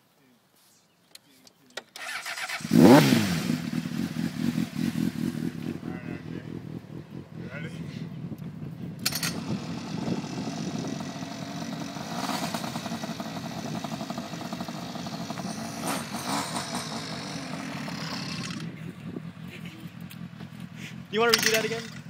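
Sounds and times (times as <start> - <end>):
motorcycle engine revving: 2.0 - 22.0.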